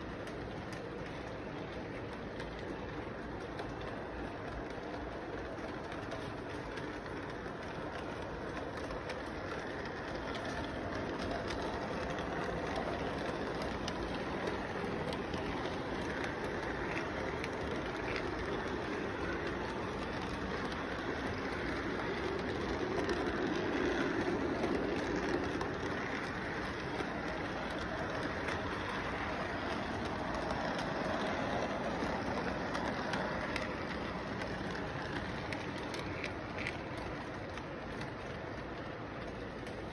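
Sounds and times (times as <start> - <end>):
model train rolling rumble: 0.0 - 39.9.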